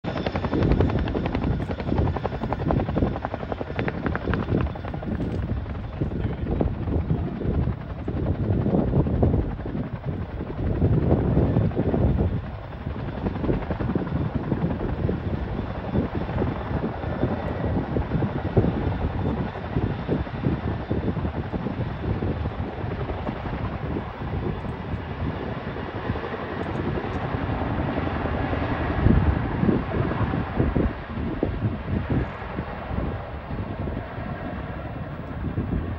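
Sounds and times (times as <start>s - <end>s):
helicopter rotors chopping: 0.1s - 35.9s.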